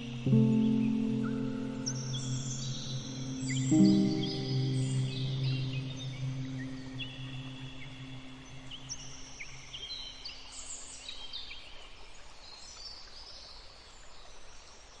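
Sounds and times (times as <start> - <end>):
soft outdoor hiss: 0.0 - 15.0.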